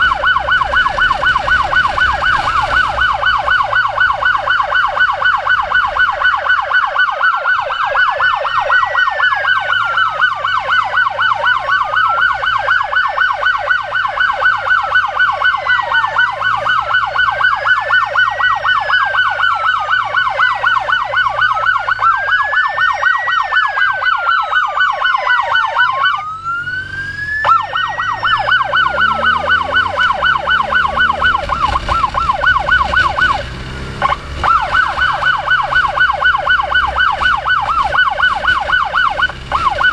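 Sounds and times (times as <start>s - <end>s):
motorcycle electronic siren: 0.0s - 39.9s.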